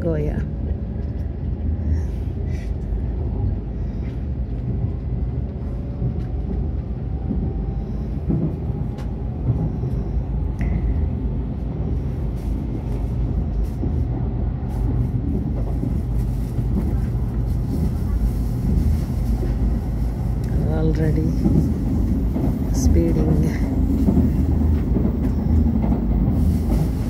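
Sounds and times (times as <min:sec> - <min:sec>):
train carriage rumble: 0:00.0 - 0:27.0.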